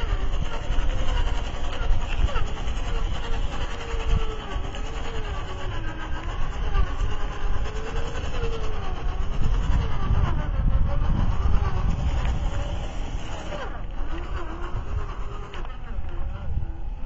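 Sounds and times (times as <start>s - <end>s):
low rumbling noise: 0.0s - 17.0s
toy car electric motor whining: 0.0s - 17.0s.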